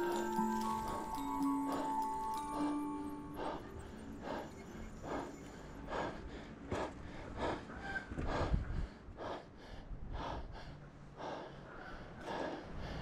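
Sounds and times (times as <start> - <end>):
person panting heavily: 0.0 - 13.0.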